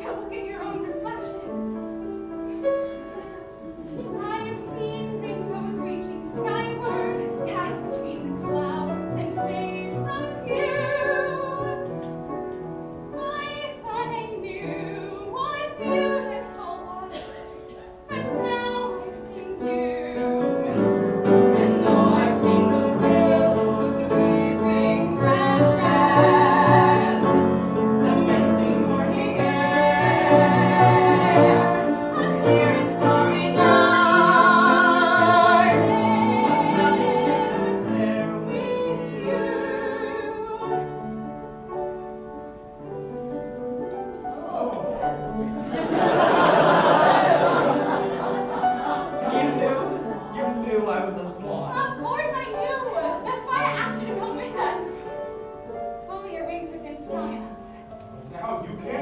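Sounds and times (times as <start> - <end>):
instrumental accompaniment: 0.0 - 59.0.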